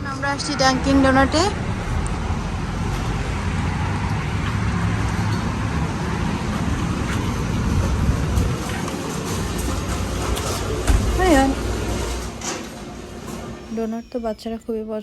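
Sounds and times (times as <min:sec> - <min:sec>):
car road noise: 0:00.0 - 0:13.6.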